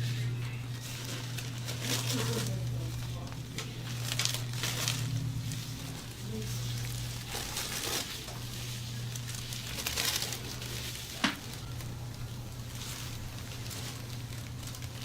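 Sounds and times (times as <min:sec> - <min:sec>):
clothing rustling and crinkling: 0:00.0 - 0:15.0
low hum: 0:00.0 - 0:15.0.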